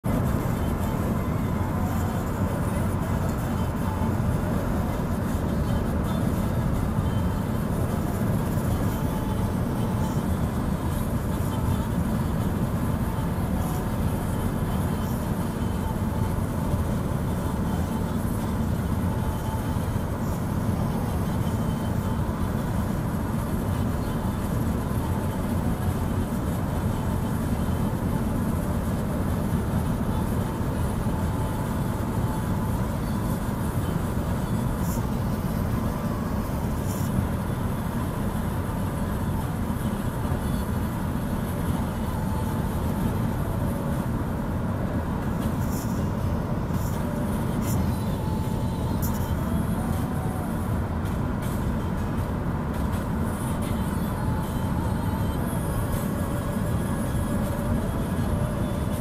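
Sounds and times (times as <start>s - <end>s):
vehicle engine and tyres rumbling: 0.0s - 59.0s.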